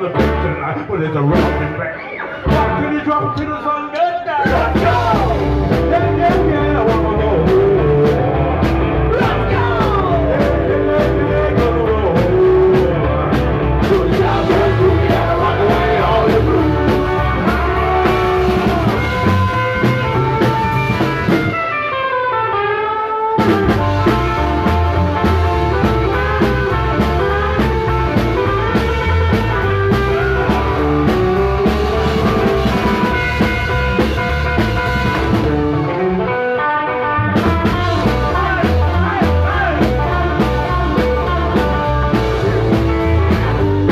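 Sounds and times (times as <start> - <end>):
person singing: 0.0 - 20.8, 23.8 - 33.5, 37.1 - 43.9
rock and roll band playing: 0.0 - 43.9
descending run of notes: 4.5 - 43.9.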